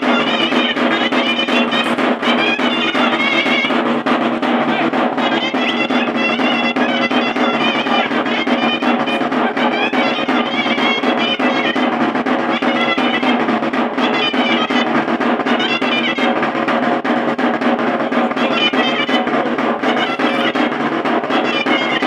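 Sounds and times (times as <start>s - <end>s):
drum beat: 0.0s - 22.0s
shawm playing ornamented melody: 0.0s - 22.0s.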